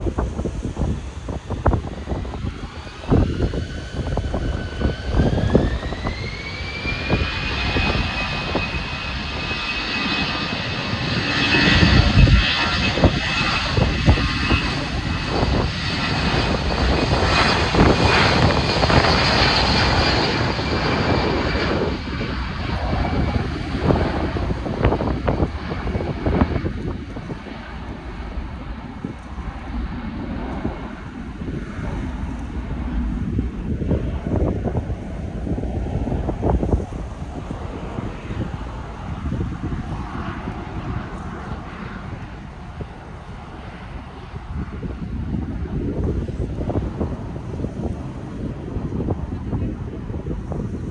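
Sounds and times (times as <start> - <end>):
jet engines spooling up: 0.0 - 50.9
wind buffeting microphone: 0.0 - 50.9.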